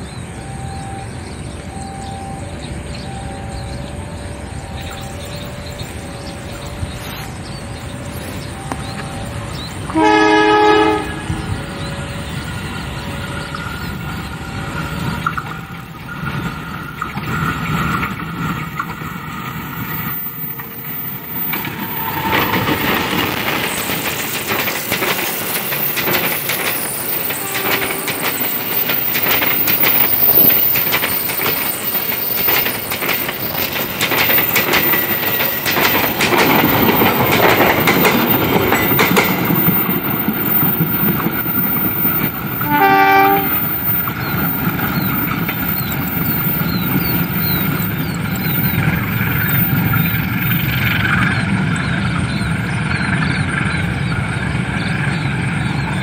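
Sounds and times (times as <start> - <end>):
train wheels clattering: 4.8 - 56.0.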